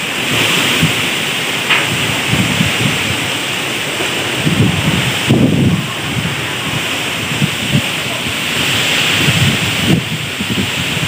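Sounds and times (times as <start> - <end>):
wind buffeting microphone: 0.0 - 11.0
wind rushing through trees: 0.0 - 11.0.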